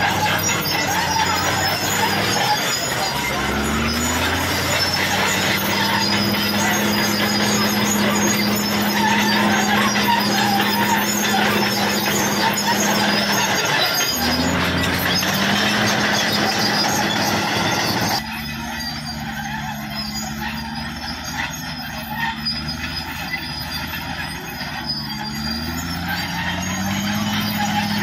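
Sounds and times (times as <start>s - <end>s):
bulldozer diesel engine: 0.0s - 28.0s
steel tracks squealing and clattering: 0.0s - 28.0s.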